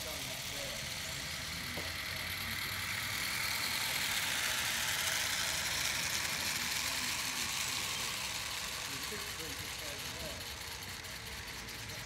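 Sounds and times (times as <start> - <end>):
model steam locomotive hissing: 0.0 - 12.0.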